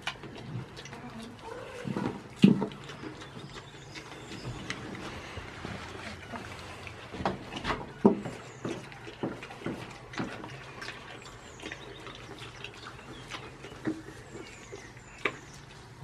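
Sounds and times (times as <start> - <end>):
goat chewing crunchy food: 0.0 - 16.0.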